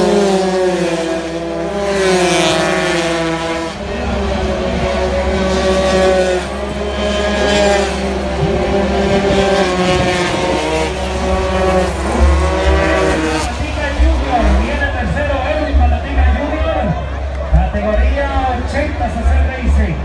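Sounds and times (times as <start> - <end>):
racing scooter engines revving: 0.0 - 20.0.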